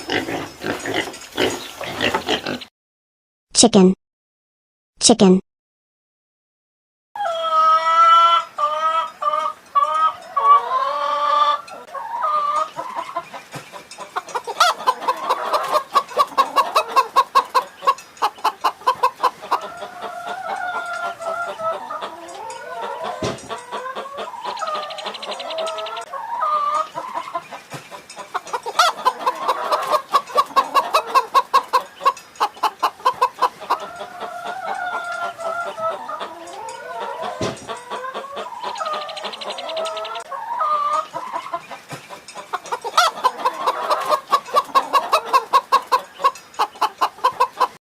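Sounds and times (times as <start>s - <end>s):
chickens clucking: 0.0s - 2.7s, 7.2s - 47.8s.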